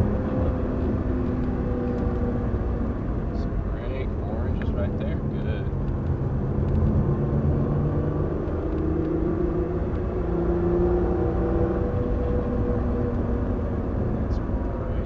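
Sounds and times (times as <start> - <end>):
car engine accelerating: 0.0 - 15.0
road and tyre rumble: 0.0 - 15.0.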